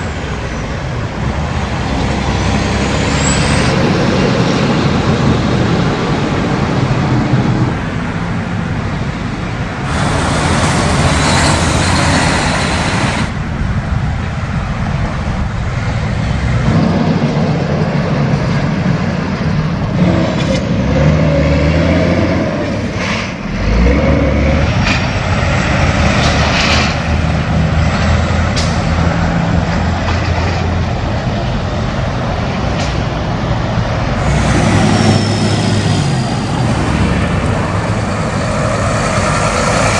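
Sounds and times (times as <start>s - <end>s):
cars driving past: 0.0s - 39.9s
diesel trucks driving past: 0.0s - 39.9s.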